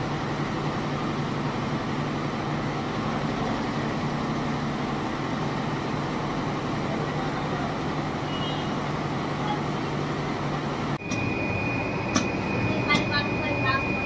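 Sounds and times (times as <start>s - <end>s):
fabric cutting machine humming: 0.0s - 14.0s.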